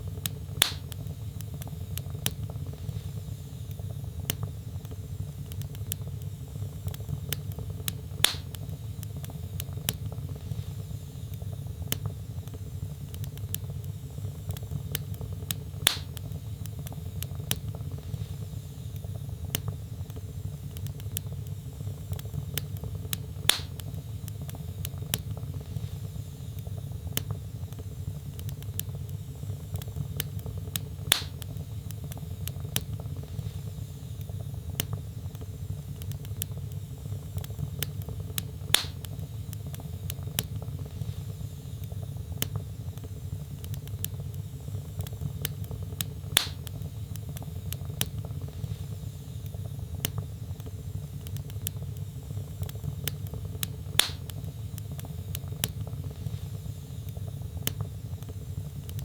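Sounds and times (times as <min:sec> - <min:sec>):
fire popping: 0:00.0 - 0:59.0
low rumble of flames: 0:00.0 - 0:59.0
wood fire crackling: 0:00.0 - 0:59.0.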